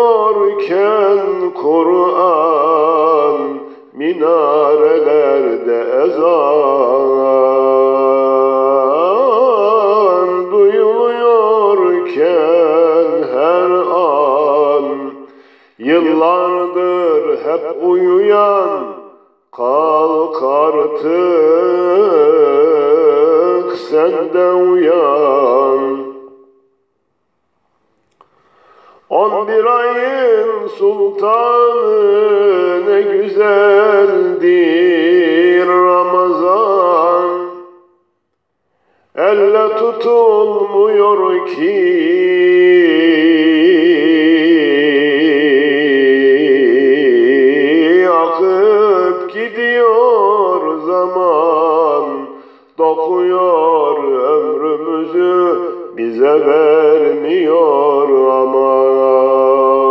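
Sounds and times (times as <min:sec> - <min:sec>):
man singing unaccompanied hymn: 0:00.0 - 0:26.6, 0:28.2 - 0:38.1, 0:39.1 - 0:59.9.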